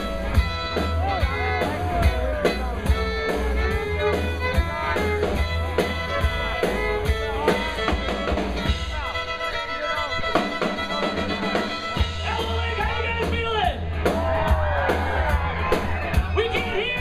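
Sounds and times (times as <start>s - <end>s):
fiddle playing: 0.0s - 14.2s
drum kit beat: 0.0s - 17.0s
live rock band playing: 0.0s - 17.0s.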